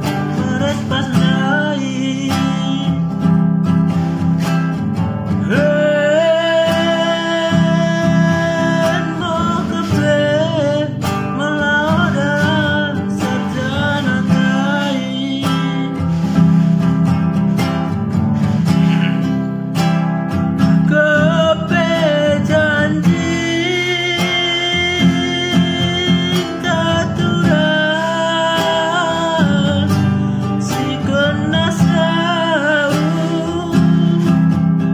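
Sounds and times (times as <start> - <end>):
man singing: 0.0 - 3.8, 5.2 - 16.9, 20.6 - 34.9
strummed acoustic guitar: 0.0 - 34.9.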